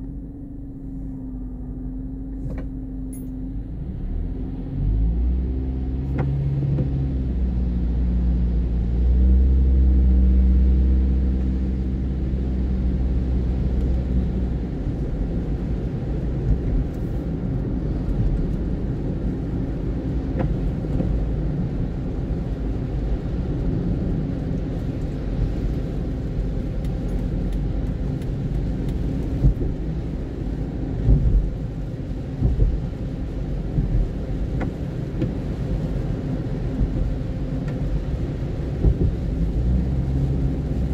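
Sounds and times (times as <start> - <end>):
car engine hum: 0.0 - 40.9
road rumble on wet road: 0.0 - 40.9.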